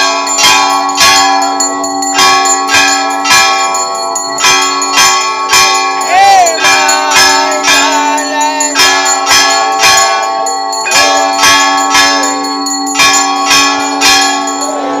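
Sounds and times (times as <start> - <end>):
temple bells ringing rapidly: 0.0 - 15.0.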